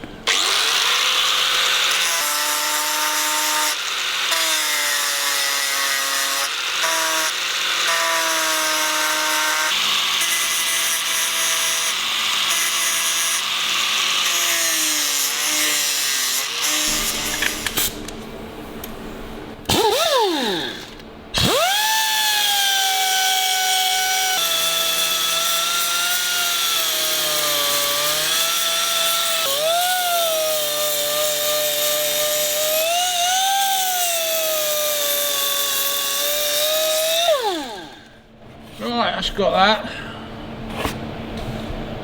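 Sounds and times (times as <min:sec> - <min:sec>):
electric grinder whining: 0:00.2 - 0:17.8, 0:19.7 - 0:38.2.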